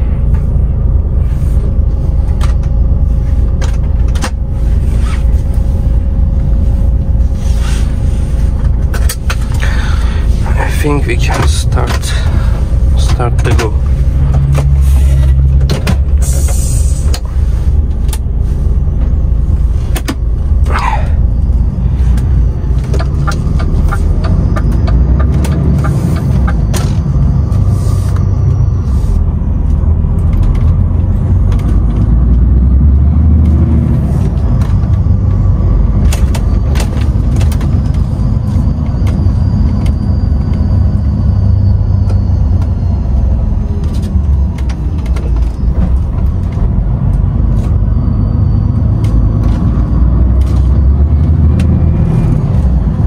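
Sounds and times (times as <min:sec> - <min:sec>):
truck diesel engine rumble: 0:00.0 - 0:53.0.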